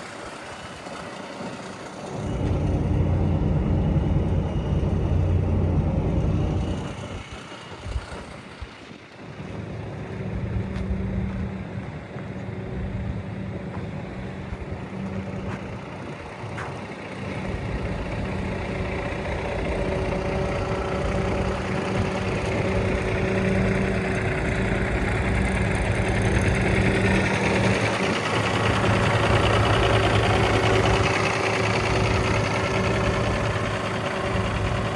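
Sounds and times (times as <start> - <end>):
diesel truck idling: 0.0 - 34.9.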